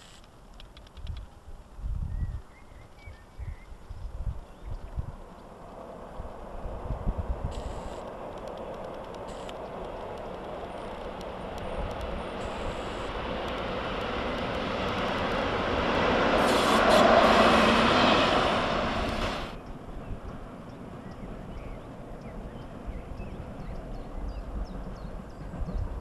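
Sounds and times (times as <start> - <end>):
train wheels rumbling on rails: 3.9 - 26.0.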